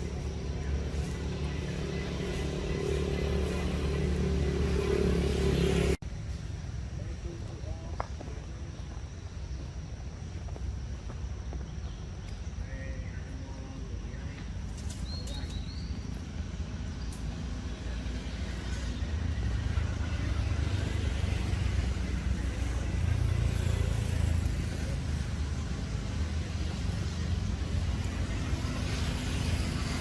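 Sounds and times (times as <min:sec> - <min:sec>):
outdoor background noise: 0:00.0 - 0:30.0
vehicle engine rumble: 0:00.0 - 0:30.0.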